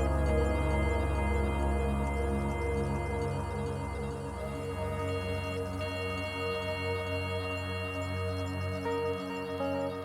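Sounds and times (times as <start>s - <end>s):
ambient new-age music: 0.0s - 10.0s.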